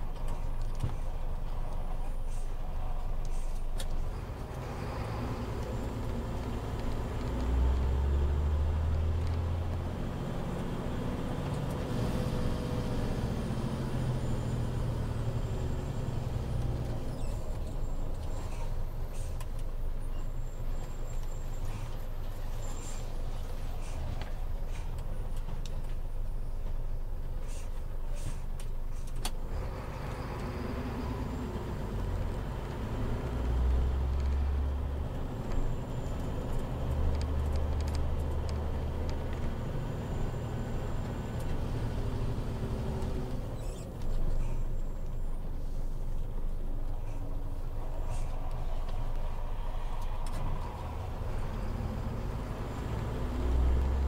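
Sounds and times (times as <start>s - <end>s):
diesel truck engine drone: 0.0s - 54.0s.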